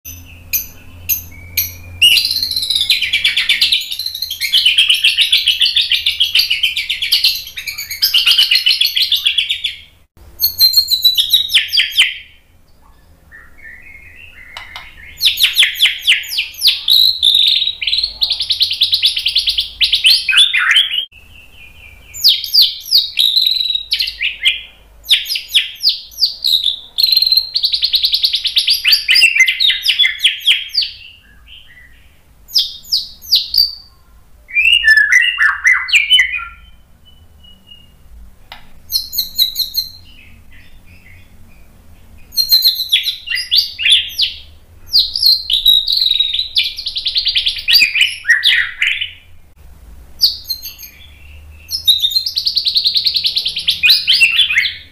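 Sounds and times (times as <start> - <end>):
bird singing varied whistles: 0.1 - 33.9, 34.5 - 38.0, 38.9 - 41.2, 42.2 - 49.2, 50.2 - 54.9.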